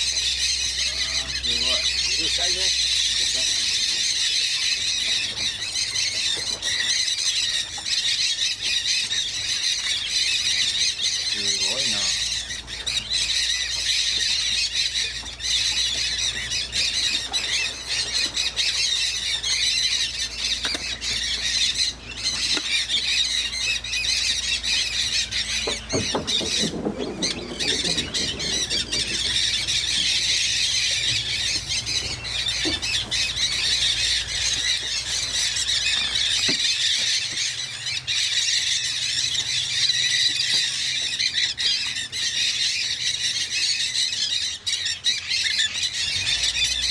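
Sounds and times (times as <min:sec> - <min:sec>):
parrot flock squawking: 0:00.0 - 0:46.9.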